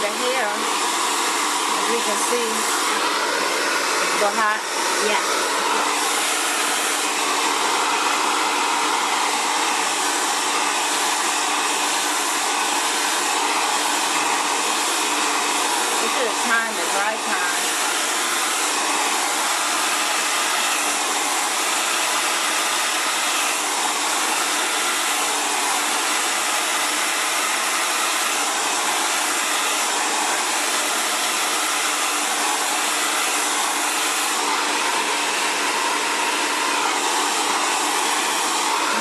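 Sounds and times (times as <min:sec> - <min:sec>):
hair dryer running: 0:00.0 - 0:39.0.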